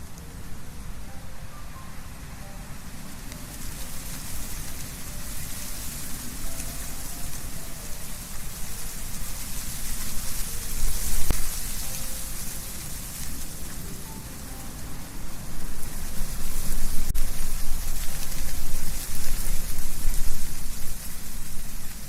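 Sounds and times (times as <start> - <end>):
leaves rustling: 0.0 - 22.0
wind blowing through trees: 0.0 - 22.0.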